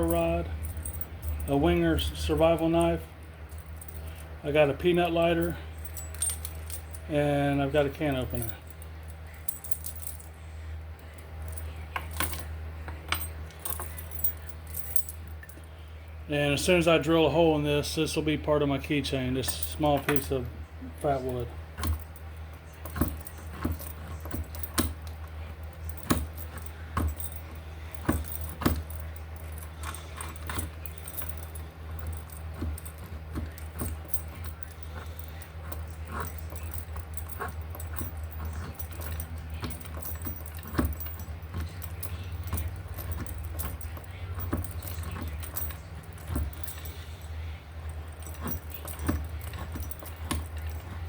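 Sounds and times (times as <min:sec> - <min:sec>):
metal keychain tools jangling: 0:00.0 - 0:04.3, 0:05.0 - 0:10.3, 0:11.0 - 0:15.7, 0:21.0 - 0:51.0
low steady hum: 0:00.0 - 0:51.0.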